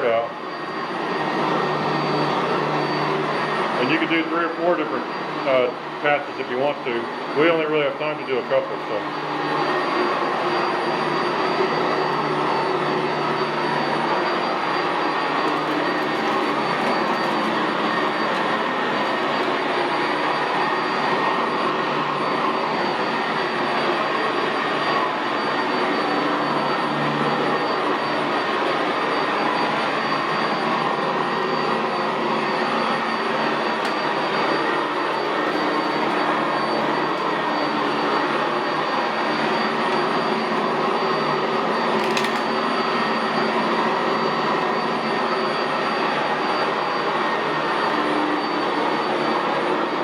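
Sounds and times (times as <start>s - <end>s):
upright vacuum running on carpet: 0.0s - 50.0s.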